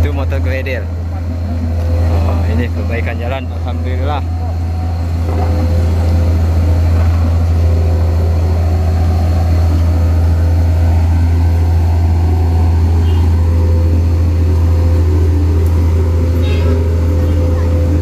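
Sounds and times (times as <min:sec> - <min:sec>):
diesel engine deep drone: 0:00.0 - 0:18.0
steady hum: 0:00.0 - 0:18.0.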